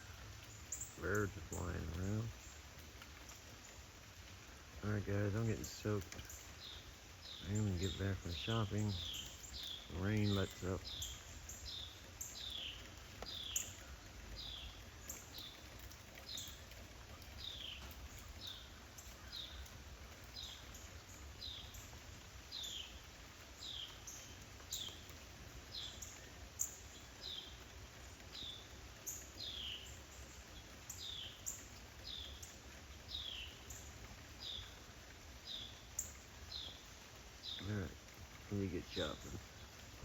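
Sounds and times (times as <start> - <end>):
faint background hiss: 0.0 - 40.0.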